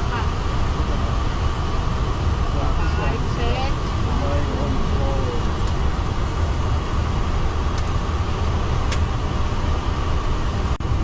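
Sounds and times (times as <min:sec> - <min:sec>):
jet engines rumbling in cockpit: 0:00.0 - 0:11.0.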